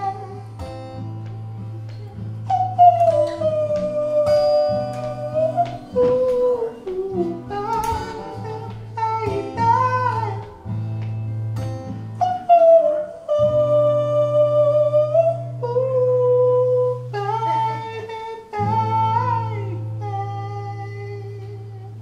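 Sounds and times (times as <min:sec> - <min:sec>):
person singing long notes: 0:00.0 - 0:01.0, 0:01.6 - 0:10.7, 0:12.1 - 0:22.0
strummed guitar chords: 0:00.0 - 0:22.0.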